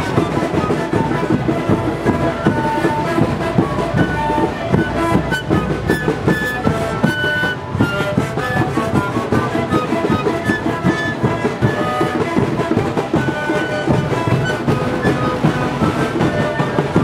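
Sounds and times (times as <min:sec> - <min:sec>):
panpipes playing a breathy melody: 0:00.0 - 0:17.0.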